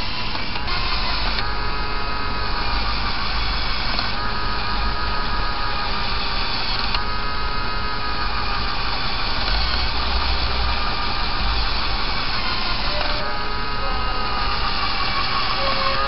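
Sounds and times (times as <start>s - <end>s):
toy motor gear whine: 0.0s - 16.0s.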